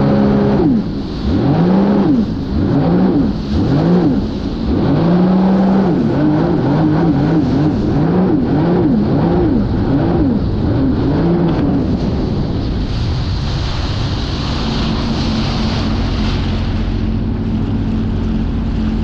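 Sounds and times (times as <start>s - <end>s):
personal watercraft engine running: 0.0s - 19.0s.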